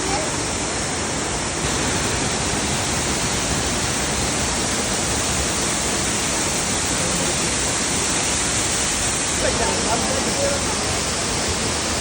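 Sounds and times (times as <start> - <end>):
waterfall rushing and splashing: 0.0 - 12.0.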